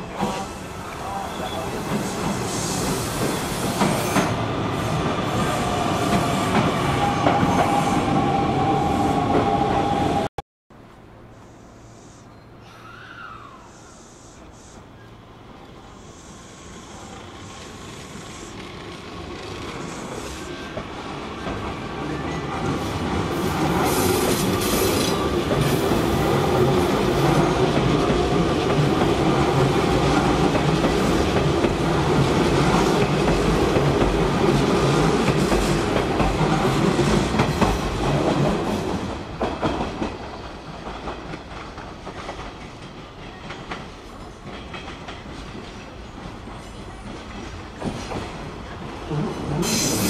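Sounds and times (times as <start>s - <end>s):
electric train passing: 0.0s - 10.3s, 11.0s - 50.0s.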